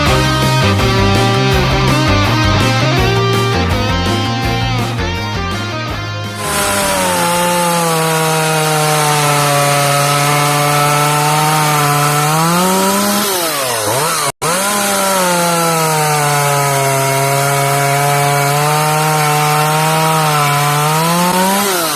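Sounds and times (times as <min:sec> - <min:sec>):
chainsaw cutting wood: 0:00.0 - 0:21.9.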